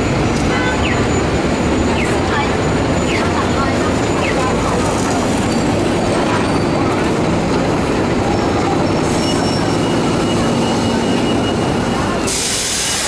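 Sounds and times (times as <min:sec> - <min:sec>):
bus diesel engine running: 0:00.0 - 0:13.0
street traffic noise: 0:00.0 - 0:13.0.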